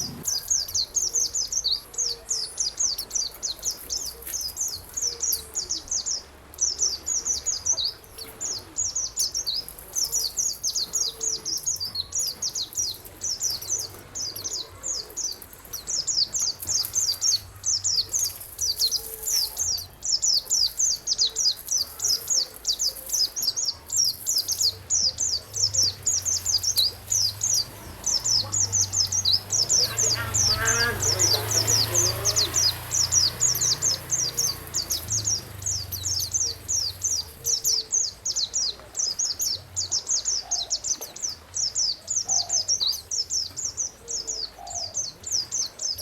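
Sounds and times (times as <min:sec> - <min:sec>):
songbird rapid chatter: 0:00.0 - 0:05.8, 0:06.9 - 0:38.5.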